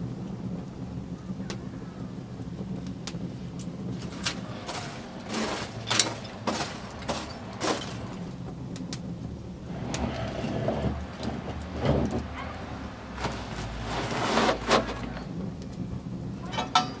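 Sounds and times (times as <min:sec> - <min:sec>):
burning logs popping: 0:00.0 - 0:17.0
flames rumbling: 0:00.0 - 0:17.0
wood fire crackling: 0:00.0 - 0:17.0.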